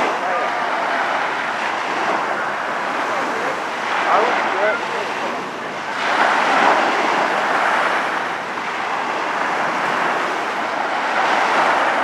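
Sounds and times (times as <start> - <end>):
distant jet flying past: 0.0 - 12.0.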